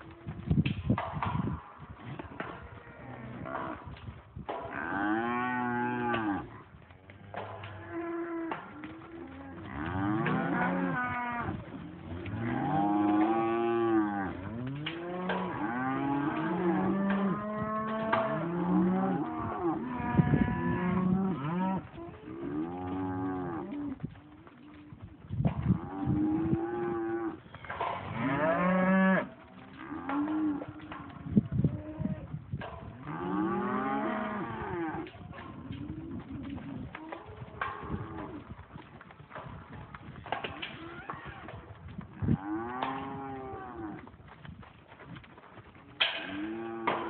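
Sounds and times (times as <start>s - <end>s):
cattle mooing and bellowing: 2.4s - 3.9s, 4.7s - 6.6s, 7.3s - 25.0s, 25.6s - 32.3s, 32.9s - 38.5s, 40.5s - 44.1s, 46.0s - 47.0s.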